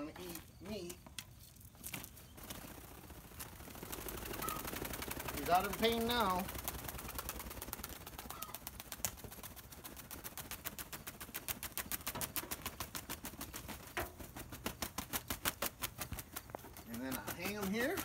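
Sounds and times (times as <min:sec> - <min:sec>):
chicken flapping wings: 0:01.6 - 0:18.0.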